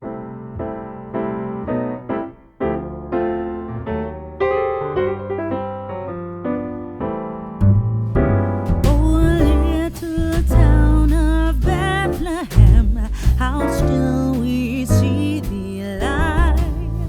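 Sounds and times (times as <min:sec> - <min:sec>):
slow piano-style keyboard tune: 0:00.0 - 0:12.5, 0:13.6 - 0:17.0.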